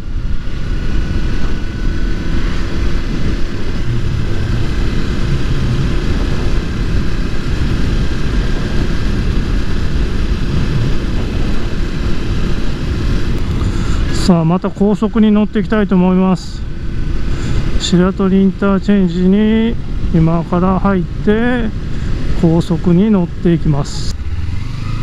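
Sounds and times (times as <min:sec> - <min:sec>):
motorcycle engine: 0:00.0 - 0:25.0
road noise: 0:00.0 - 0:25.0
wind rushing over microphone: 0:00.0 - 0:25.0.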